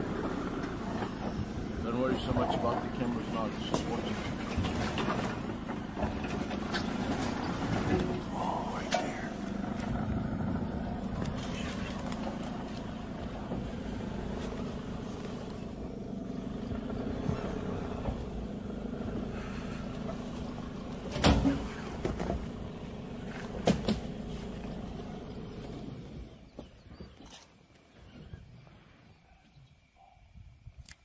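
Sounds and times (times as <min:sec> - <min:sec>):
engine idling: 0:00.0 - 0:26.7.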